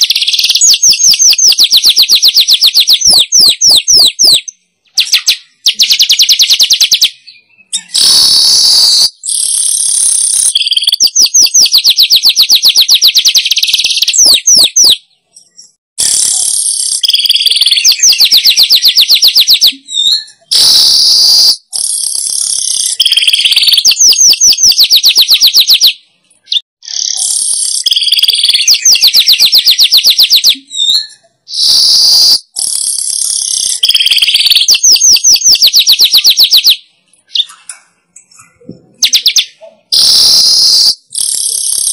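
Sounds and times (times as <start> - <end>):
weaver bird song: 0.0 - 41.9.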